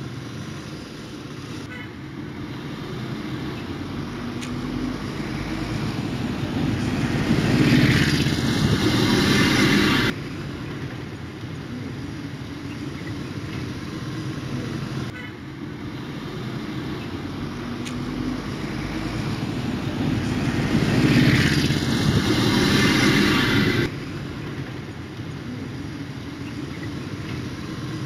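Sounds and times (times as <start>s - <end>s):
vehicle engine: 0.0s - 28.0s.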